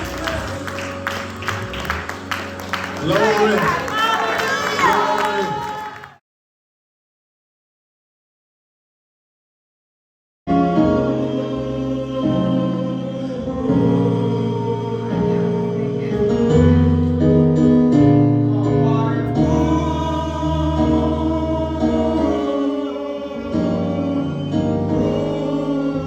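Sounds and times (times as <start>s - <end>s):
choir singing gospel: 0.0s - 6.1s, 10.5s - 17.3s, 18.0s - 26.0s.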